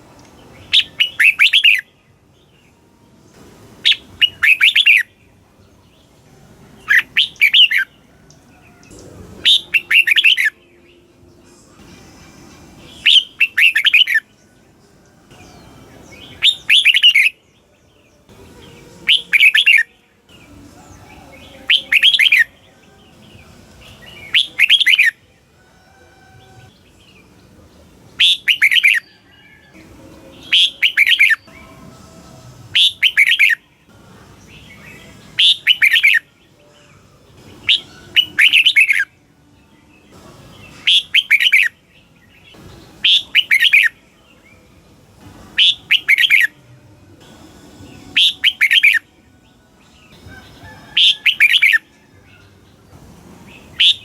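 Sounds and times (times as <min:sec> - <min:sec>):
bird singing warbled notes: 0:00.2 - 0:25.4, 0:26.3 - 0:54.0.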